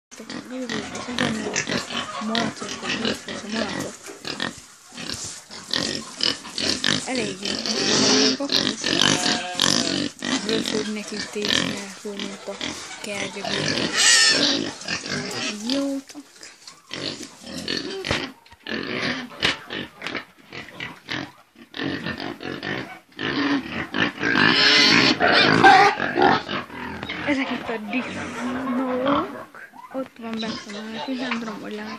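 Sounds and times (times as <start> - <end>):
pigs grunting and squealing: 0.1 - 31.9.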